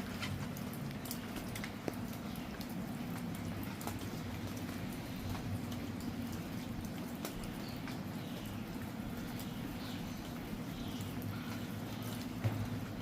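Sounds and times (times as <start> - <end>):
drops ticking on surfaces: 0.0 - 13.0
rain patter: 0.0 - 13.0.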